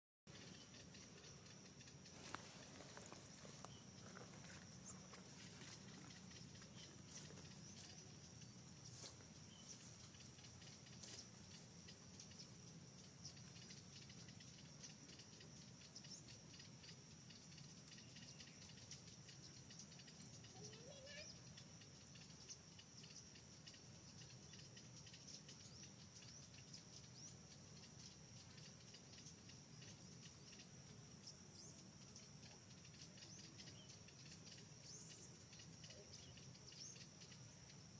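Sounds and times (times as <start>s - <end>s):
faint ticks and rustles: 0.3s - 37.9s
insects droning: 0.3s - 37.9s.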